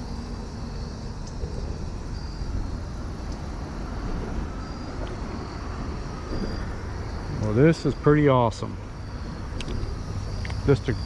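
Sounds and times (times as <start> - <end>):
faint insect chirps: 0.0 - 11.0
steady low rumble: 0.0 - 11.0.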